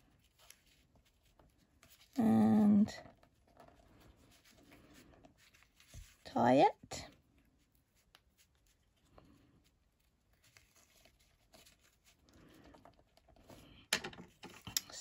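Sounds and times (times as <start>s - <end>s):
ribbon and card rustling: 0.0s - 15.0s.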